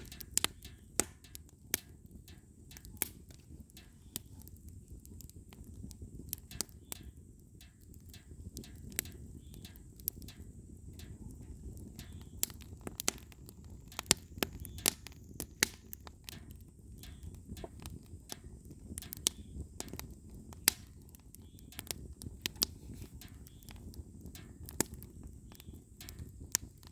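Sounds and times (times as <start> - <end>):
firewood crackling: 0.0 - 26.9.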